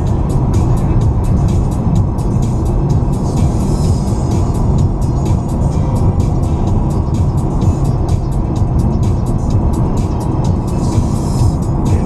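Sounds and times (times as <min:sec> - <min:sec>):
car driving at highway speed: 0:00.0 - 0:12.0
music with quick beat: 0:00.0 - 0:12.0.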